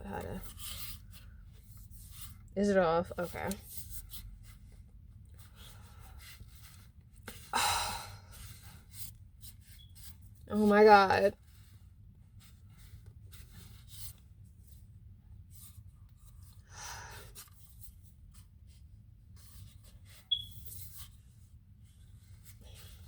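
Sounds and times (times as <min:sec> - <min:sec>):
rubbing and handling noises: 0:00.0 - 0:07.6, 0:08.2 - 0:23.0.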